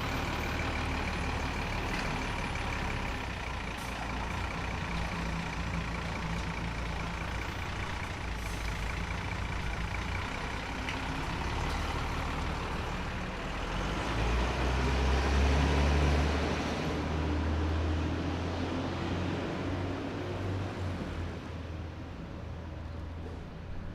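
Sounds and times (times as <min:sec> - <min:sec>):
heavy vehicle engine running: 0:00.0 - 0:23.9.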